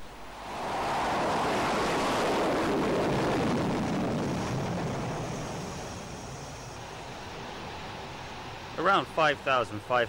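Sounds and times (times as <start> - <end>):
fighter jet engines roaring: 0.0 - 10.0.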